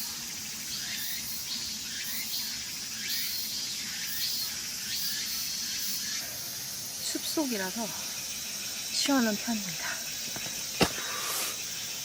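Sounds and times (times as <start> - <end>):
cicadas droning: 0.0 - 12.0
short sweeping insect call: 0.0 - 12.0.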